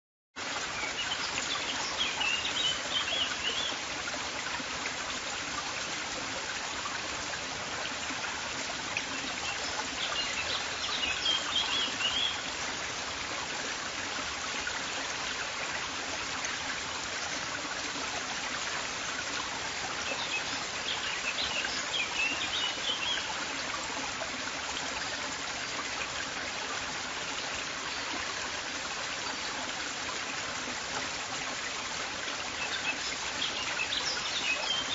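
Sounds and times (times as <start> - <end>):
river water flowing: 0.4 - 34.9.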